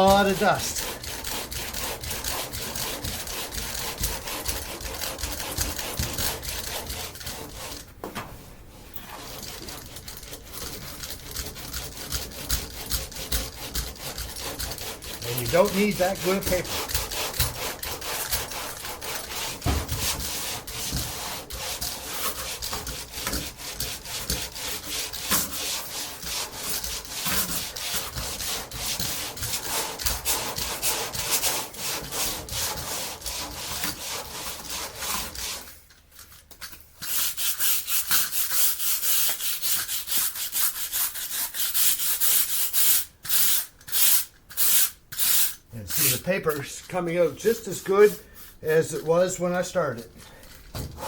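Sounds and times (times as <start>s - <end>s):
sandpaper rubbing on filler: 0.0s - 7.9s, 8.8s - 35.8s, 36.6s - 51.0s.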